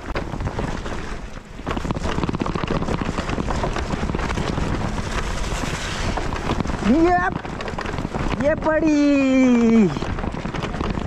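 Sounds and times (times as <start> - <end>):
bike rattling over rough trail: 0.0 - 11.0
wind buffeting microphone: 0.0 - 11.0.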